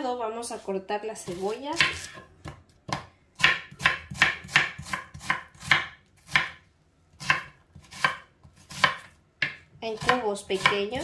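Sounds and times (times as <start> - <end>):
knife chopping onion on board: 1.2 - 6.6, 7.2 - 11.0.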